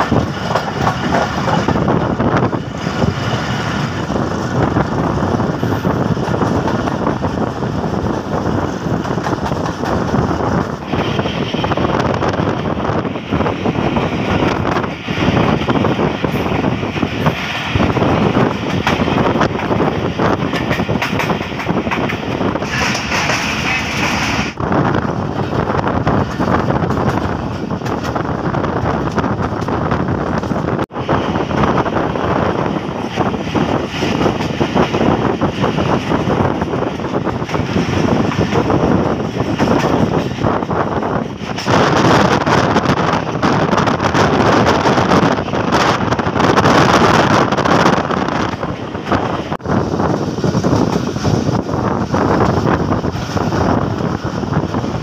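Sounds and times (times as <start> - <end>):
train carriages running on track: 0.0 - 55.0
wind over microphone: 0.0 - 55.0.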